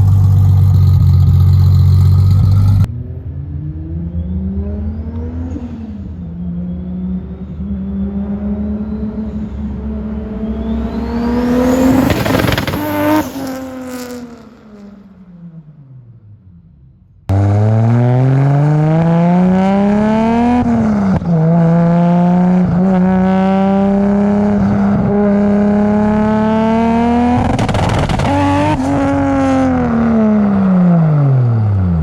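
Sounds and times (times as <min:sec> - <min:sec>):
car engine with loud exhaust: 0:00.0 - 0:32.0.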